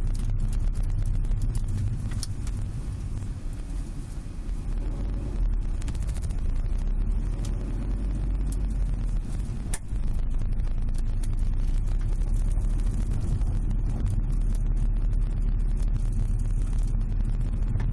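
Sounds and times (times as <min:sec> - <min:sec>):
crackling rattle clicks: 0:00.0 - 0:17.9
road and engine rumble: 0:00.0 - 0:17.9.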